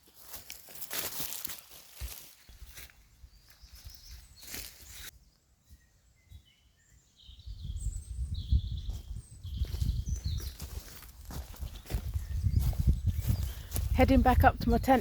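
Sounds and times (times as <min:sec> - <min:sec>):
small birds chirping: 0:01.9 - 0:15.0.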